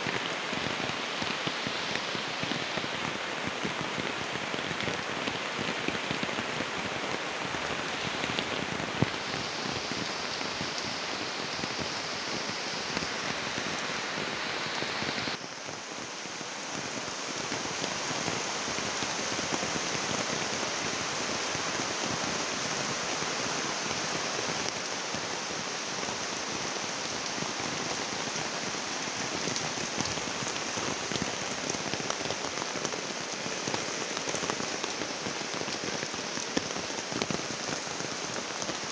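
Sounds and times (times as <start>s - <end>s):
rain on plants and paving: 0.0s - 38.9s.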